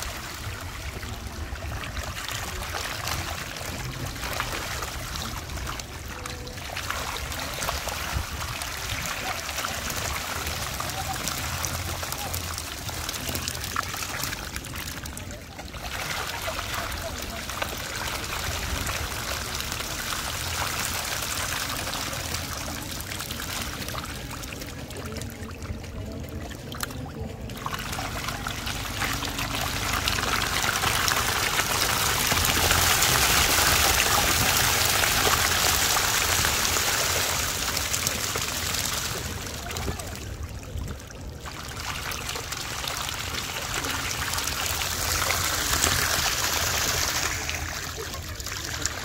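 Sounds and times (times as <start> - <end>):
fish splashing in shallow water: 0.0 - 49.0.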